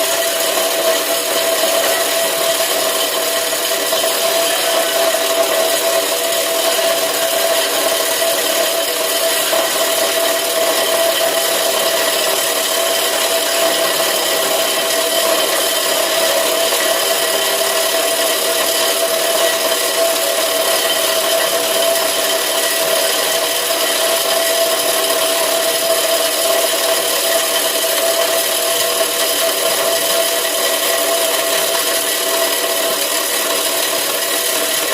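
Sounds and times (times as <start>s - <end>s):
grinder machine grinding: 0.0s - 34.9s.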